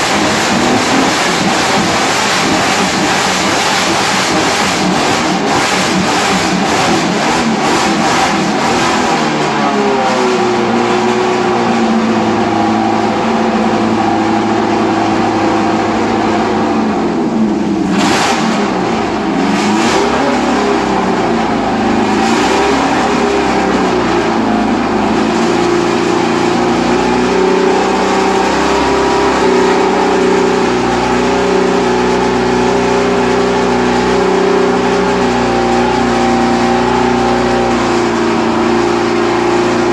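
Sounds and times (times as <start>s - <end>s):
racing car engines revving: 0.0s - 39.9s.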